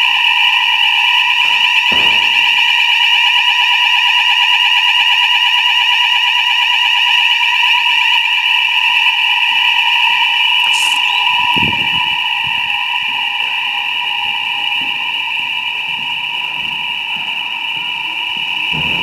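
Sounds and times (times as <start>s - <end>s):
fire alarm continuous tone: 0.0s - 19.0s.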